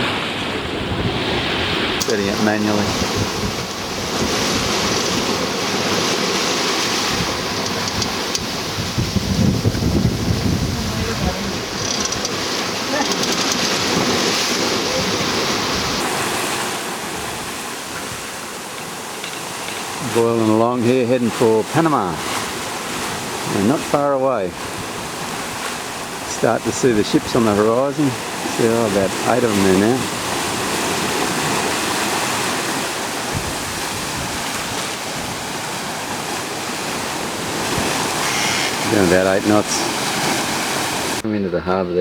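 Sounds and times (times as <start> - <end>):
wind on microphone: 0.0 - 20.1, 24.4 - 41.2
sea water rushing along hull: 0.0 - 42.0.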